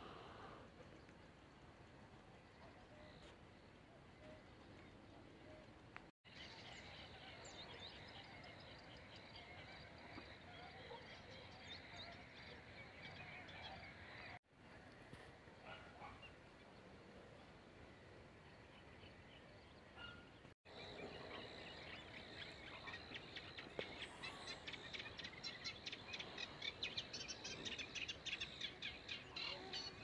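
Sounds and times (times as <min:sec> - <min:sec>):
faint outdoor background noise: 0:00.0 - 0:30.0.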